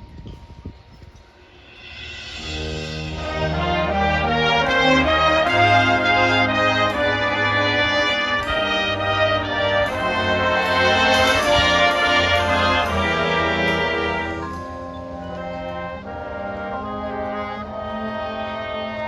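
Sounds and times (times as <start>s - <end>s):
percussion strokes: 1.0s - 17.8s
brass band playing chords: 1.4s - 19.0s.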